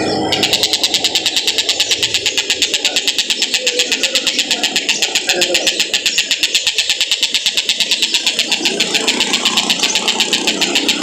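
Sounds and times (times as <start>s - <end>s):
kingfisher harsh repeated calls: 0.0s - 11.0s.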